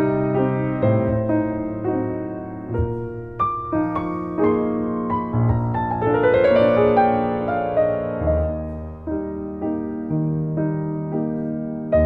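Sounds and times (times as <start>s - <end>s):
classical piano music: 0.0s - 12.0s.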